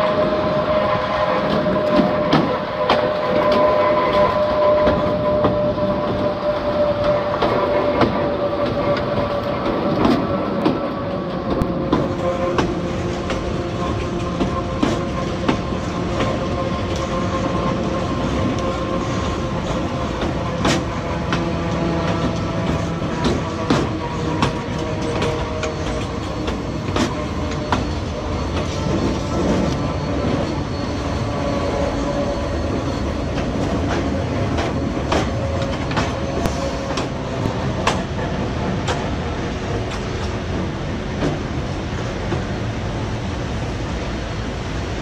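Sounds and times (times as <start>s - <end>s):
electric locomotive whine: 0.0s - 45.0s.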